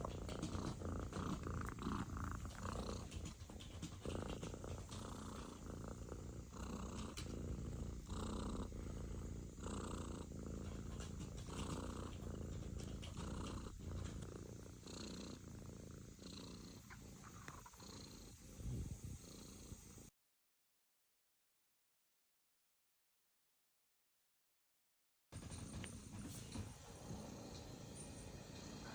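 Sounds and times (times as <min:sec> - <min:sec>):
kitten purring: 0:00.0 - 0:20.0, 0:25.4 - 0:28.9.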